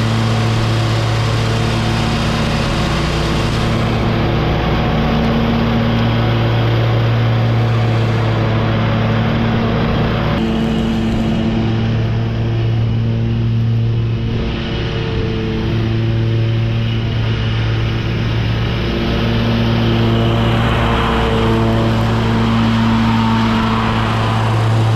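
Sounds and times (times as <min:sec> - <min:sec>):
lawn mower engine: 0:00.0 - 0:24.9
mower mulching leaves rushing: 0:00.0 - 0:24.9.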